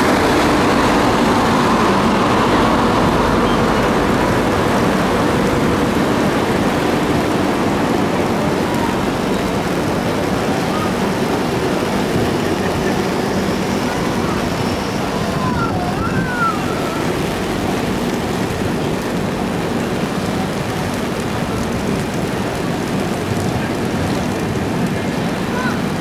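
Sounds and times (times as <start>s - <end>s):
heavy rain on an umbrella: 0.0s - 26.0s
passenger train rolling past: 0.0s - 26.0s.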